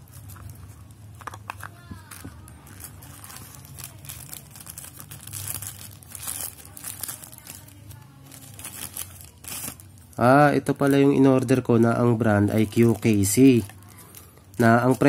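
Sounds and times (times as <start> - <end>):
plastic and paper crinkling: 0.0 - 15.0.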